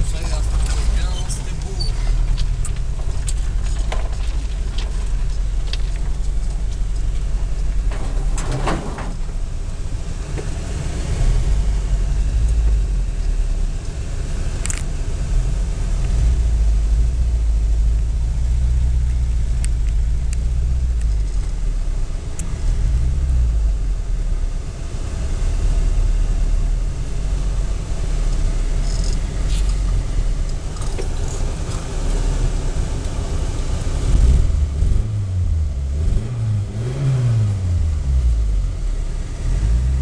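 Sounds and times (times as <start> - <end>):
engine deep rumble: 0.0 - 40.0.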